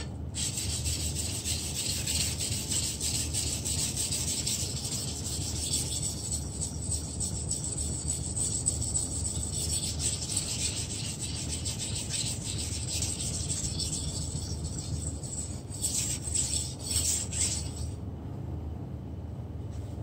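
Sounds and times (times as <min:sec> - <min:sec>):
knife grinding on whetstone: 0:00.4 - 0:17.9.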